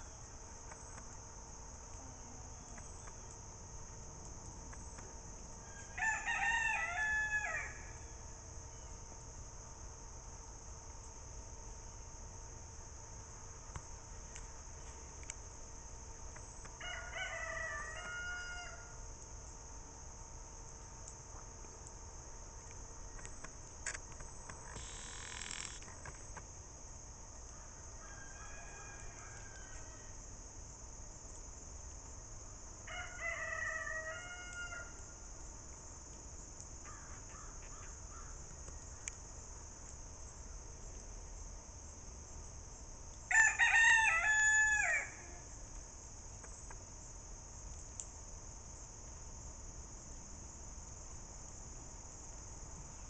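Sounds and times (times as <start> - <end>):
high drone of insects: 0.0 - 53.0.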